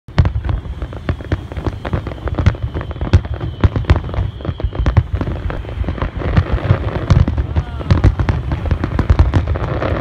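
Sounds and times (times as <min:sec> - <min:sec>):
fireworks bangs and booms: 0:00.1 - 0:10.0.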